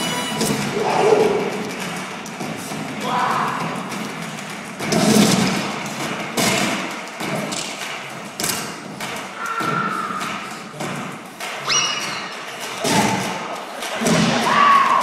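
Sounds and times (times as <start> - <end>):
echoing thuds and thumps: 0.3 - 15.0.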